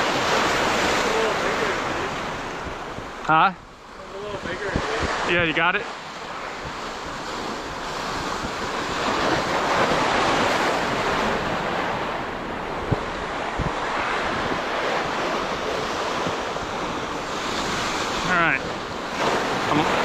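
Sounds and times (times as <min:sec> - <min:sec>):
ocean surf washing in: 0:00.0 - 0:20.0
wind rumbling on microphone: 0:00.0 - 0:20.0.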